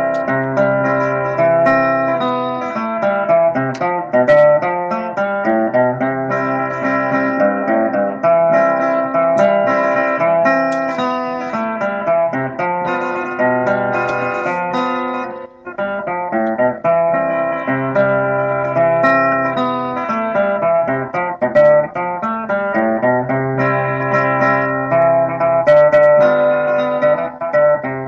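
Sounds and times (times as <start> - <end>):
guitar melody picked: 0.0 - 28.0.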